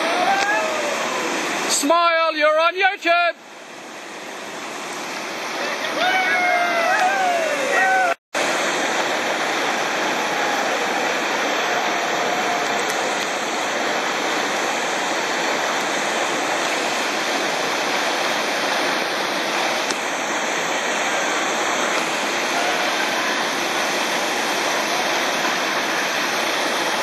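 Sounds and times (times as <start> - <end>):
river rapids rushing over rocks: 0.0 - 2.2, 3.4 - 27.0.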